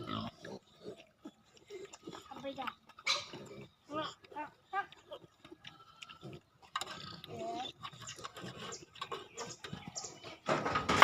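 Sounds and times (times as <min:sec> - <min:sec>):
piglets grunting: 0:00.0 - 0:10.5.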